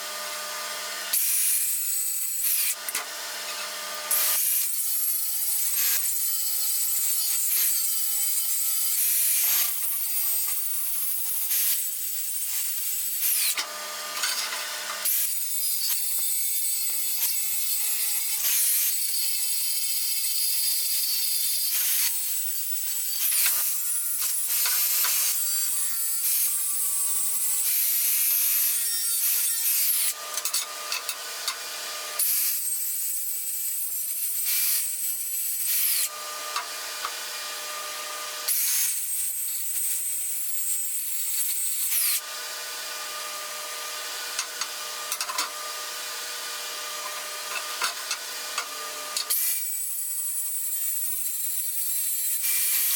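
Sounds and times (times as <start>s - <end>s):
power grinder grinding steel: 0.0s - 52.9s.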